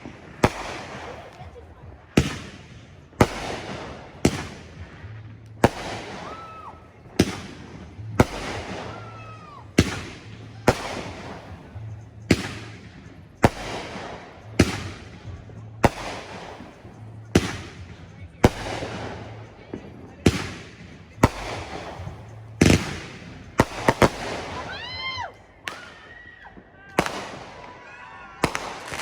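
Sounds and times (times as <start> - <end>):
firework whistles: 0.0 - 29.0
fireworks bangs: 0.0 - 29.0.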